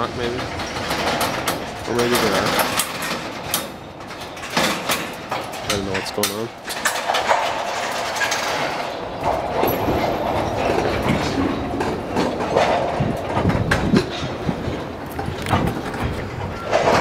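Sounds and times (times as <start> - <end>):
train rolling noise: 0.0 - 17.0
train wheels clacking on rails: 0.0 - 17.0.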